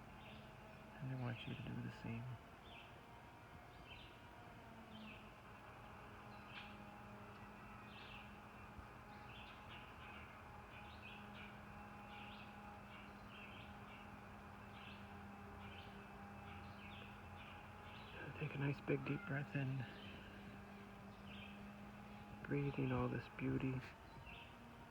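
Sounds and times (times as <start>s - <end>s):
birds chirping: 0.0s - 24.9s
faint low hum: 0.0s - 24.9s.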